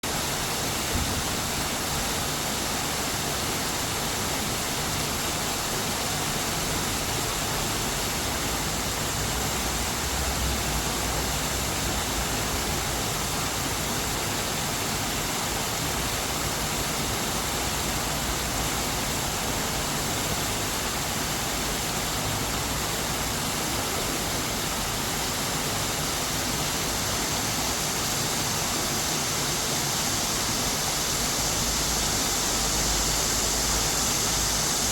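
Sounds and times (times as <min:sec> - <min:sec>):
waterfall gushing: 0:00.0 - 0:34.9.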